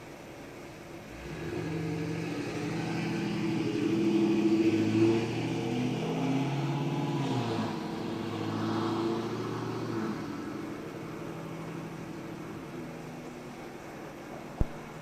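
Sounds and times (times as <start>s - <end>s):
fan hiss: 0.0s - 15.0s.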